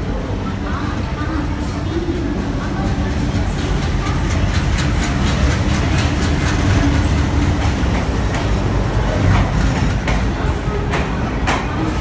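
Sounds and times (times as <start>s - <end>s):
diesel locomotive engine rumble: 0.0s - 12.0s
wheels clicking on track: 1.0s - 12.0s.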